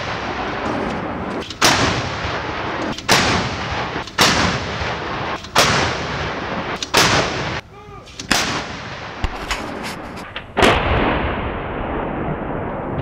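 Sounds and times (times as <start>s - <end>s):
howitzers firing: 0.0s - 13.0s.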